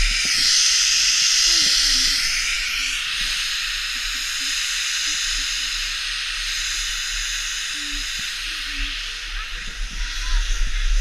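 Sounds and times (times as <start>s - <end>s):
skis hissing over snow: 0.0s - 11.0s.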